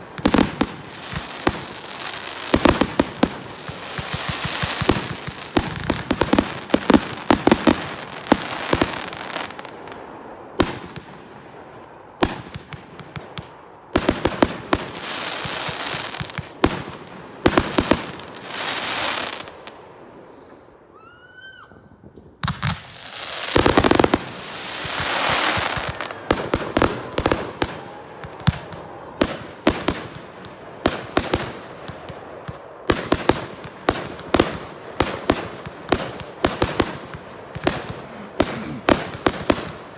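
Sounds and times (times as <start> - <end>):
fireworks rushing hiss: 0.0 - 11.1, 12.4 - 21.5, 22.1 - 39.9
fireworks bangs and crackles: 0.0 - 39.9.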